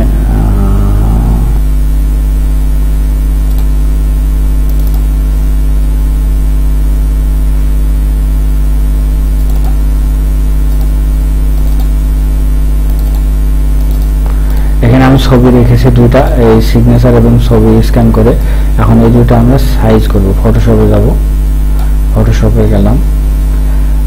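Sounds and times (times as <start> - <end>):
loud low hum: 0.0 - 24.0.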